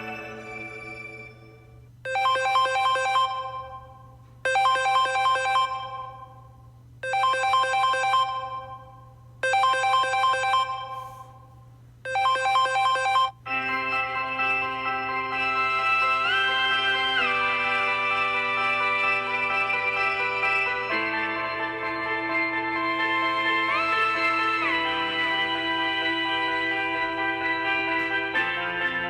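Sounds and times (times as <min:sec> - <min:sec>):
phone ringtone melody: 0:00.0 - 0:11.3, 0:12.1 - 0:29.0.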